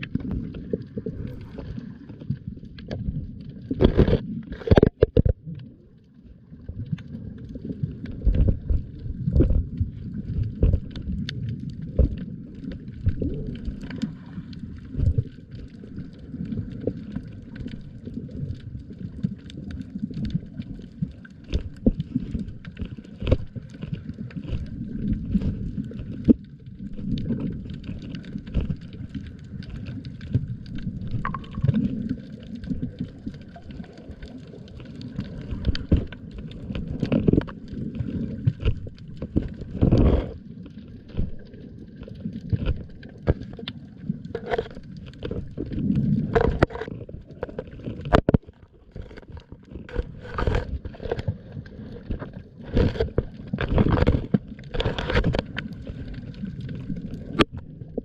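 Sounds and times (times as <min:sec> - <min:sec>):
water and wind rumble: 0:00.0 - 0:58.0.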